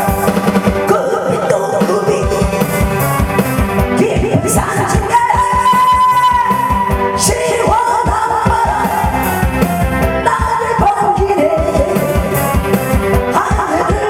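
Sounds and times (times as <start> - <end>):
person singing: 0.0 - 3.1, 3.8 - 12.6, 13.2 - 14.0
music with steady beat: 0.0 - 14.0.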